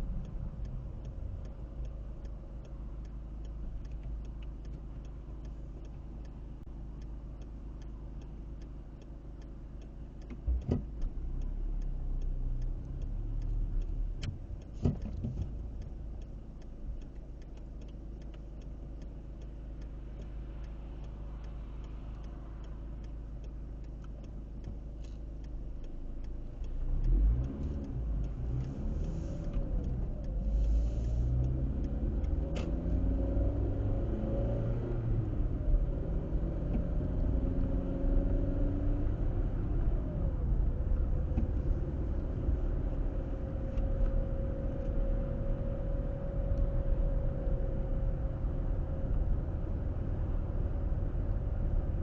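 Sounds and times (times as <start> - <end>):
faint regular ticking: 0.0 - 48.3
car engine and road noise: 0.0 - 52.0.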